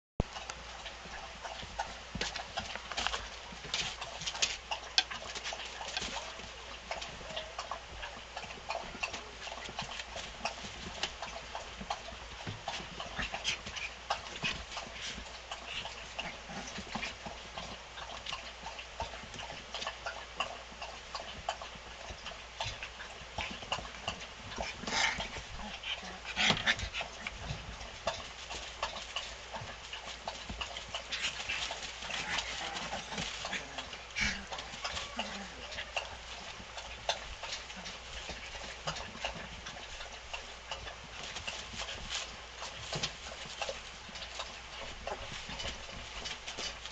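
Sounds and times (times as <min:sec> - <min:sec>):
puppy paws tapping and scuffing: 0:00.2 - 0:46.9.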